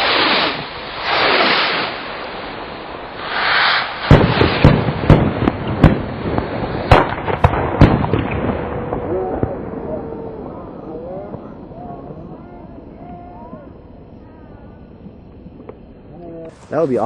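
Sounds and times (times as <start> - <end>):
fireworks hissing rushes: 0.0 - 17.0
fireworks sharp bangs: 0.0 - 17.0.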